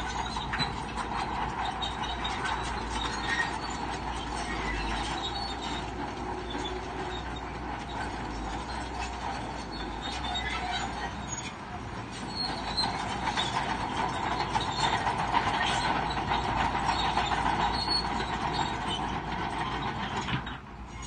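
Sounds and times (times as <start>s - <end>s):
bulldozer engine running: 0.0s - 21.0s
steel tracks clanking and squealing: 0.0s - 21.0s.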